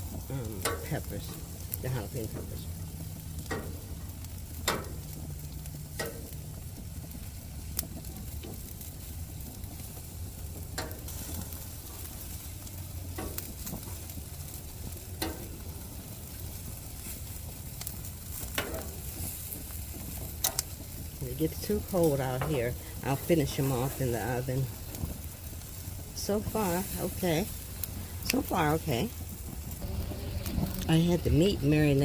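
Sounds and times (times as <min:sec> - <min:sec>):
chicken wings sizzling on grill: 0:00.0 - 0:32.0
low rumble: 0:00.0 - 0:32.0.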